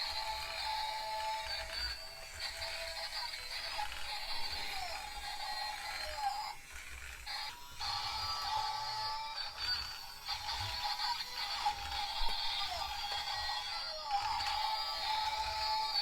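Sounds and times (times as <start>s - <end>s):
toy electronic music: 0.0s - 16.0s.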